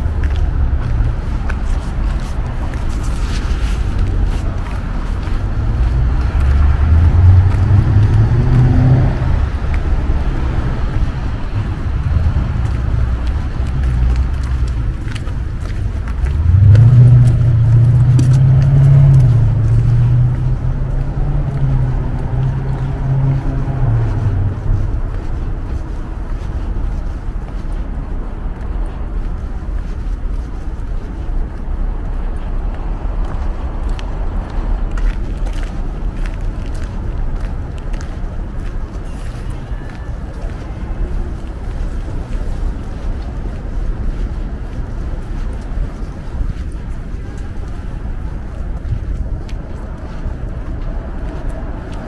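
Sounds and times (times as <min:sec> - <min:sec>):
vehicles driving past: 0:00.0 - 0:52.0.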